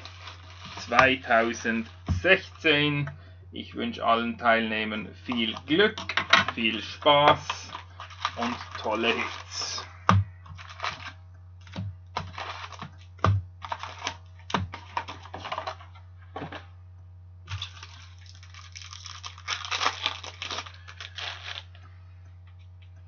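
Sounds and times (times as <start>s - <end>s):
cardboard and wrappers rustling: 0.0s - 2.9s, 5.2s - 16.6s, 17.5s - 21.8s
steady low hum: 0.0s - 23.0s.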